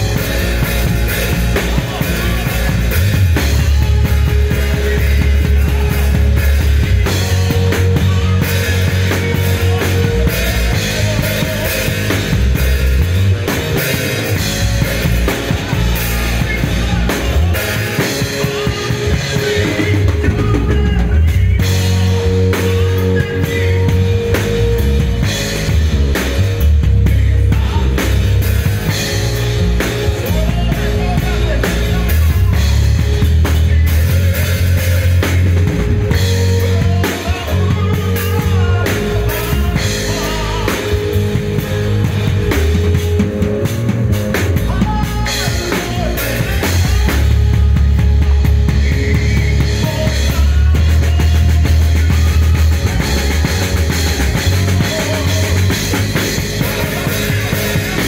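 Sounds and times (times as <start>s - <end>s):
bass line: 0.0s - 58.0s
drum and cymbal hits: 0.0s - 58.0s
rock band music: 0.0s - 58.0s.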